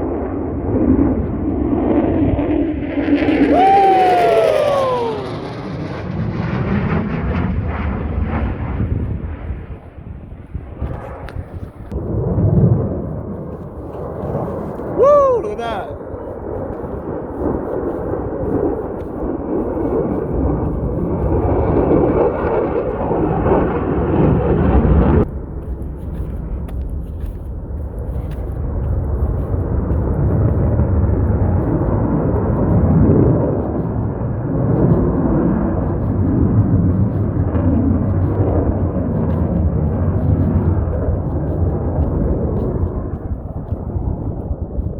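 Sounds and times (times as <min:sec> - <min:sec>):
jet engine rumble: 0:00.0 - 0:44.9.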